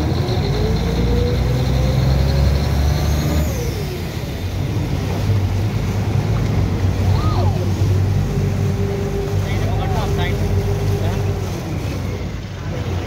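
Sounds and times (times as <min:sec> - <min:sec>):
boat engine rumbling: 0:00.0 - 0:13.0
higher engine tone: 0:00.0 - 0:13.0
water rushing past hull: 0:00.0 - 0:13.0.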